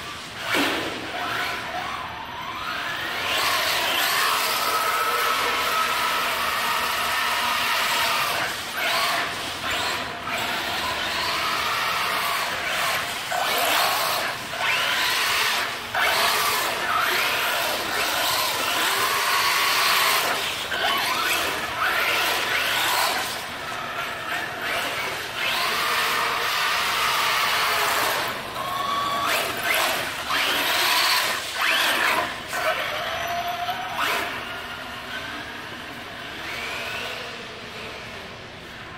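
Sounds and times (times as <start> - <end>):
electric motors whining: 0.0 - 38.9.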